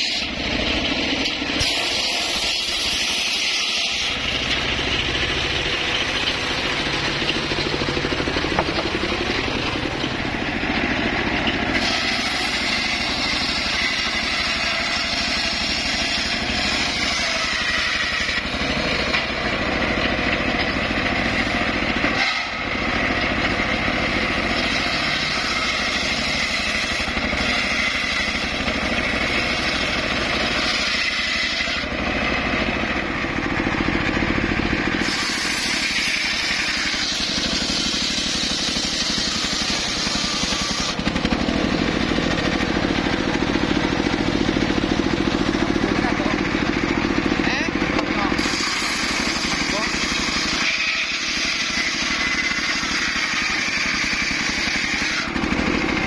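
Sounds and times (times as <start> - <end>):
drive motor drone: 0.0 - 56.0
saw blade cutting timber: 0.0 - 56.0.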